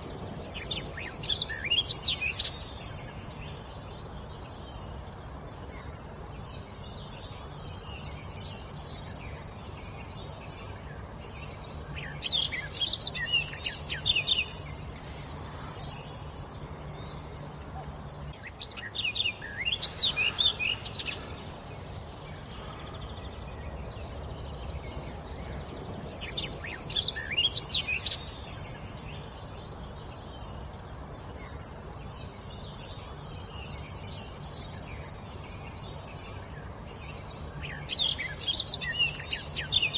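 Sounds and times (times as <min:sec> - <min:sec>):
songbird singing: 0:00.0 - 0:39.9
steady background hiss: 0:00.0 - 0:39.9.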